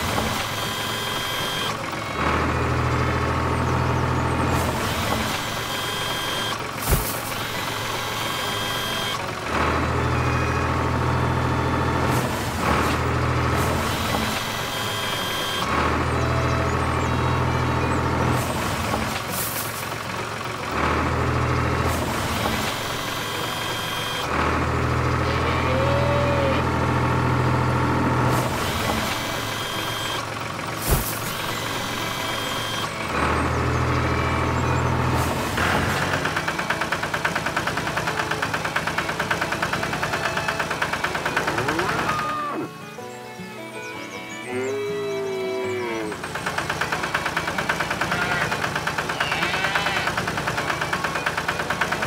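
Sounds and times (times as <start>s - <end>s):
cartoon tractor engine rumble: 0.0s - 52.0s.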